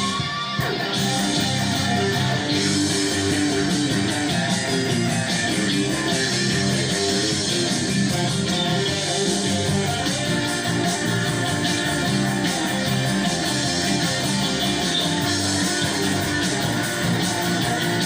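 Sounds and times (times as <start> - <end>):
rock music with electric guitar: 0.0 - 18.0.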